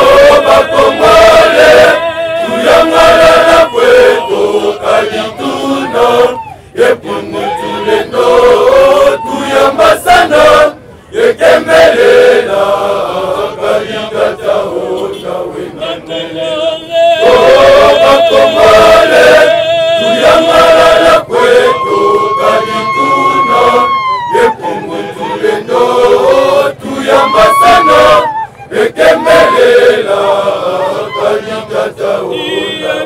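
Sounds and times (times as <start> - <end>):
choir of men and boys singing: 0.0 - 33.0.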